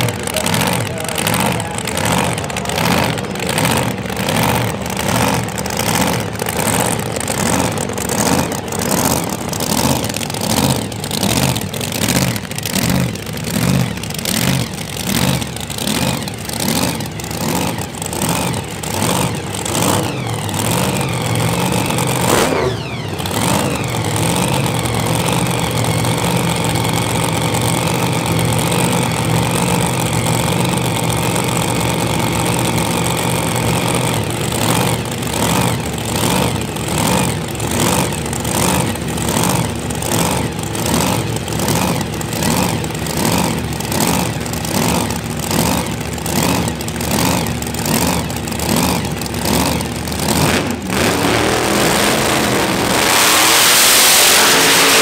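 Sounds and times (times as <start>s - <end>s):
drag racing engine idling: 0.0s - 55.0s.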